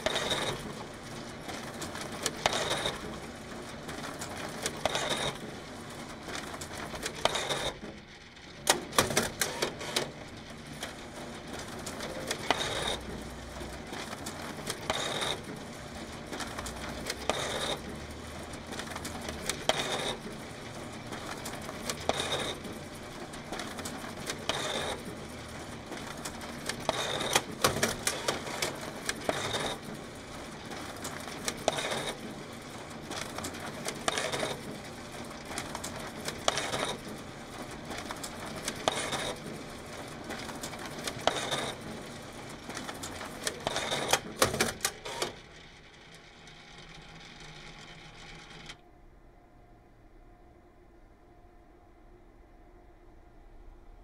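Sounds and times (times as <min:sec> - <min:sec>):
photocopier whirring: 0:00.0 - 0:48.9.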